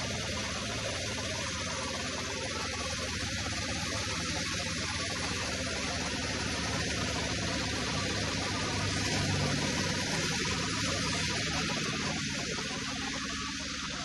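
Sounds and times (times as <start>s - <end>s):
band saw running: 0.0s - 14.0s.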